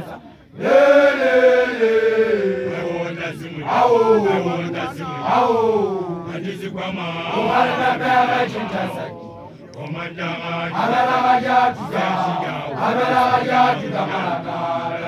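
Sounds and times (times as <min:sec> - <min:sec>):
group of men chanting: 0:00.0 - 0:15.0.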